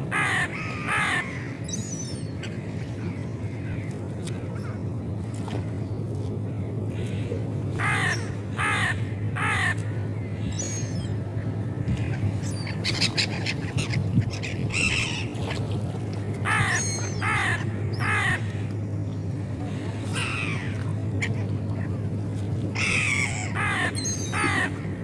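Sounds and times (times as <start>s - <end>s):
seagulls calling: 0.0s - 5.0s, 6.6s - 22.1s, 22.7s - 25.0s
steady low hum: 0.0s - 25.0s.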